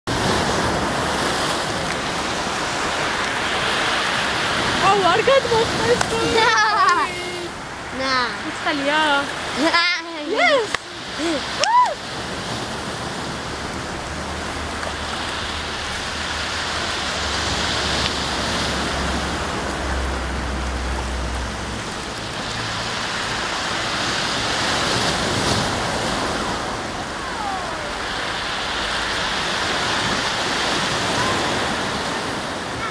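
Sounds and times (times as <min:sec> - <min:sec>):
surf washing against rocks: 0:00.1 - 0:32.9.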